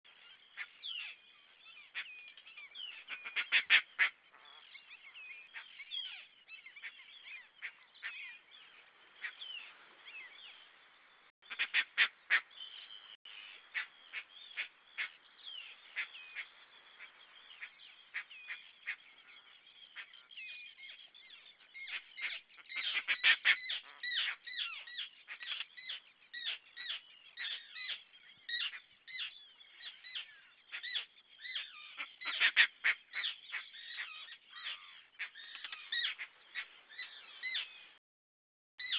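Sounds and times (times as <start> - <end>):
flock of birds calling: 0.1 - 10.6, 11.4 - 38.0.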